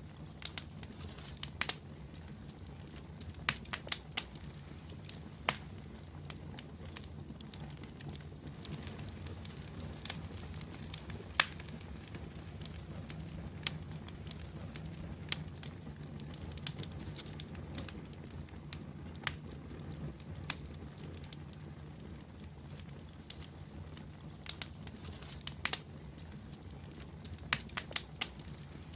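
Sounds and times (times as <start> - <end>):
open fire crackling: 0.0 - 28.9.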